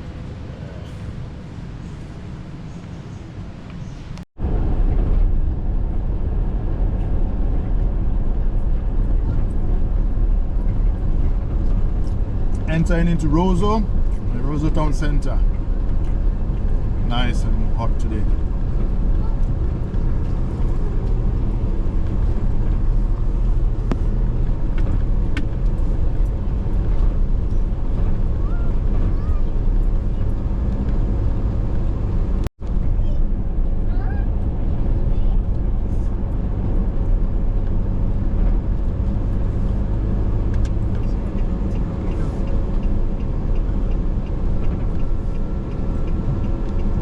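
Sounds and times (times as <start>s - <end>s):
car road and engine noise: 0.0s - 47.0s.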